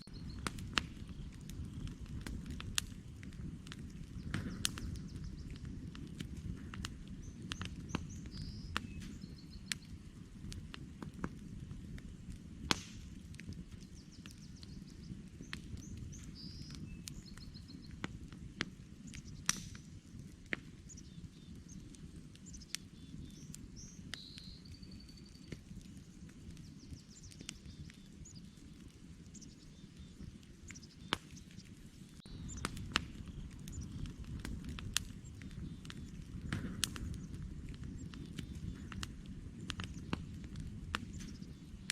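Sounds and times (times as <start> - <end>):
campfire crackling and popping: 0.0 - 41.9
small birds chirping: 0.0 - 41.9.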